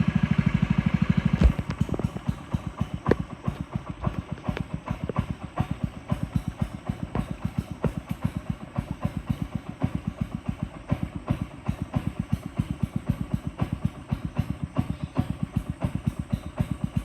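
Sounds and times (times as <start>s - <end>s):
boat engine thudding: 0.2s - 17.0s.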